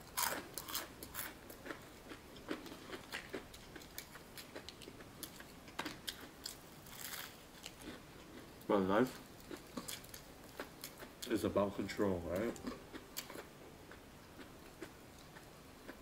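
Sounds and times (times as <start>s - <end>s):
chewing crispy fried chicken: 0.0s - 11.6s, 12.2s - 16.0s.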